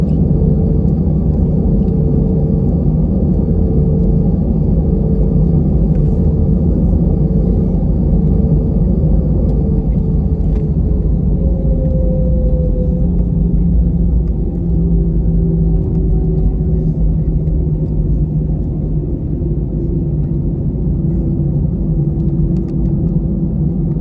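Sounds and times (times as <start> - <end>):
jet airliner rumble: 0.0 - 24.0.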